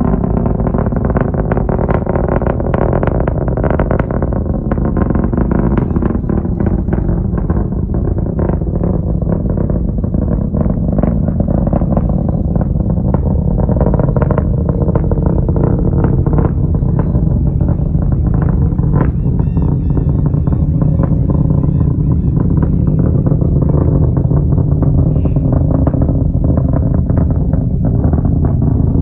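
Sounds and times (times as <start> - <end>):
distant rocket engine rumble: 0.0 - 29.0
irregular crackling: 0.0 - 29.0.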